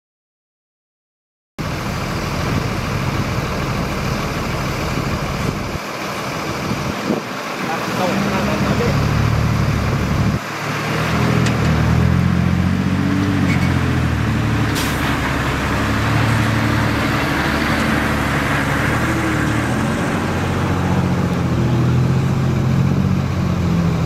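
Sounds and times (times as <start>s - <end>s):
heavy diesel engine running: 1.6s - 24.0s.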